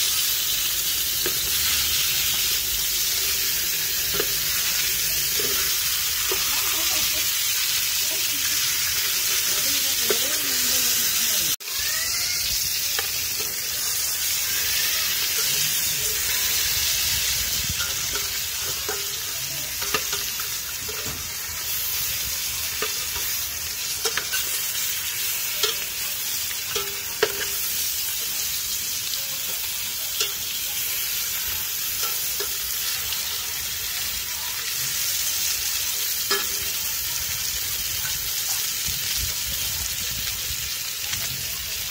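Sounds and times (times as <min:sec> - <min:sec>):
fish sizzling in oil: 0:00.0 - 0:41.9.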